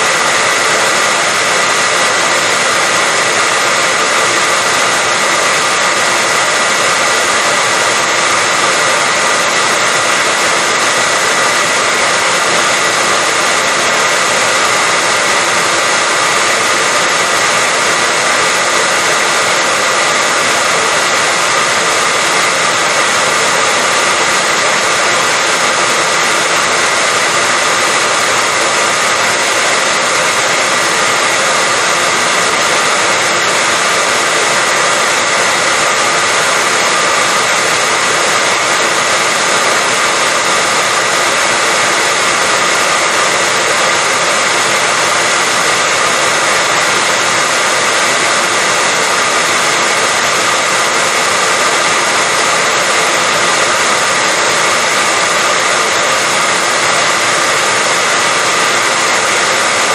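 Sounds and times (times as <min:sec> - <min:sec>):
hair dryer blowing with whine: 0:00.0 - 0:59.9.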